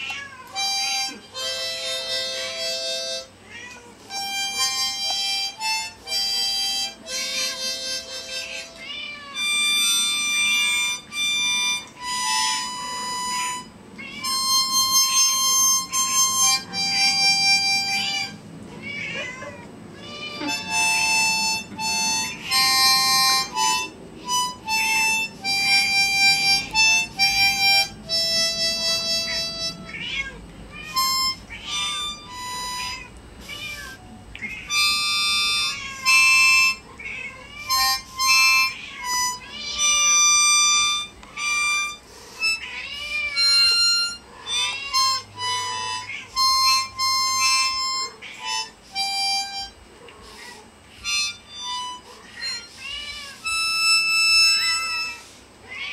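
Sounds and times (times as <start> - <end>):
harmonica short held notes: 0.0 - 3.4, 4.0 - 18.5, 20.0 - 36.9, 37.5 - 49.8, 50.9 - 55.5
cats meowing: 0.0 - 25.8, 26.4 - 55.9.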